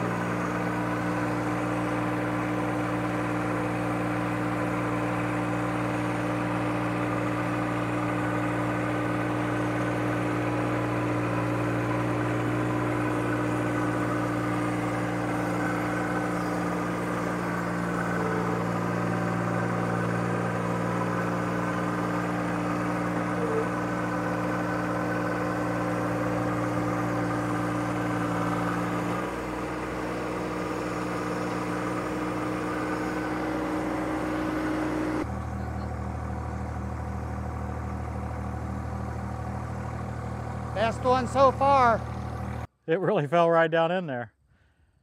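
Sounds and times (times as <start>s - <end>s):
diesel tractor engine running: 0.0s - 42.7s
hydraulic auger boring: 0.0s - 42.7s.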